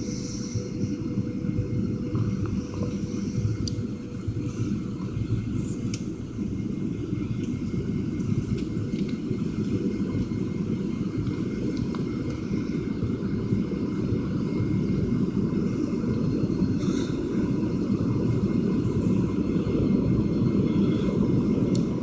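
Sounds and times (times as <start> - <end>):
airliner cabin roar: 0.0 - 22.0.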